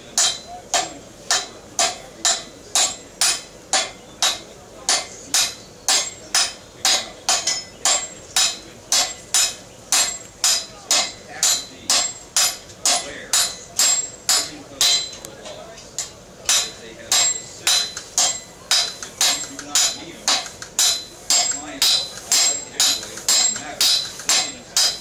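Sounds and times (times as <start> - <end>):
hammers striking iron on anvil: 0.0 - 15.3, 16.0 - 25.0.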